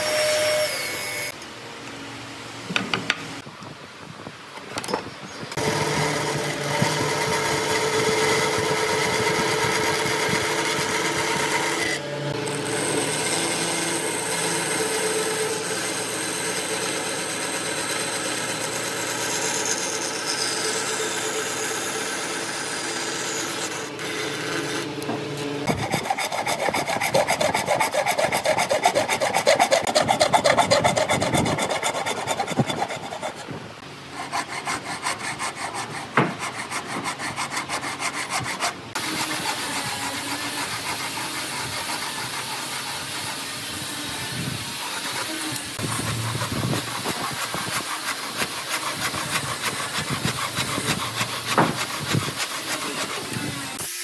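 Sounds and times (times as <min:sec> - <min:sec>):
handsaw sawing wood: 0:05.6 - 0:24.9, 0:25.6 - 0:54.0
bandsaw cutting wood: 0:05.6 - 0:33.6, 0:34.2 - 0:54.0.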